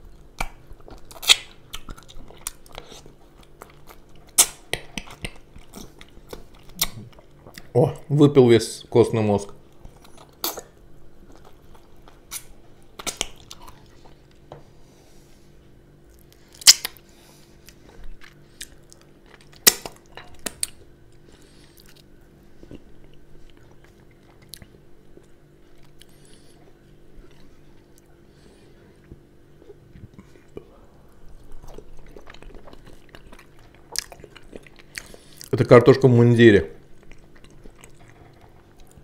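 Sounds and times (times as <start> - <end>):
person chewing food: 0.0 - 7.7, 9.5 - 35.6, 36.8 - 39.0
faint steady hum: 0.0 - 39.0.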